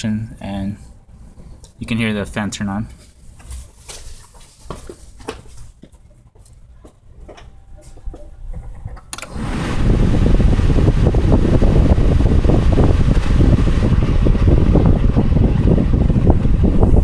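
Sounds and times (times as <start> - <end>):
radiator fan running loudly: 0.0 - 17.0.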